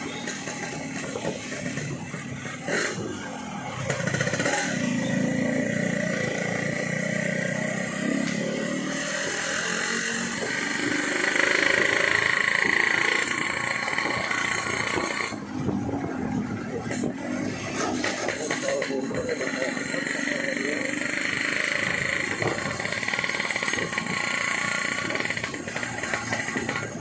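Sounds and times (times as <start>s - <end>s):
two-stroke motorcycle running: 0.0s - 27.0s.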